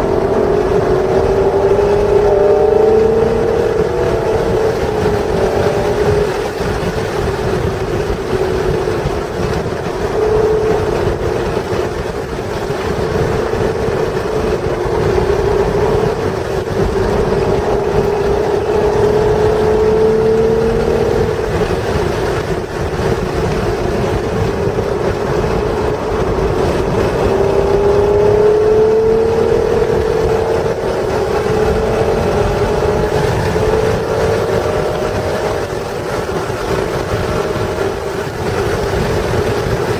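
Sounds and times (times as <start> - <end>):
sports car engine revving: 0.0 - 39.9
wind noise: 0.0 - 39.9.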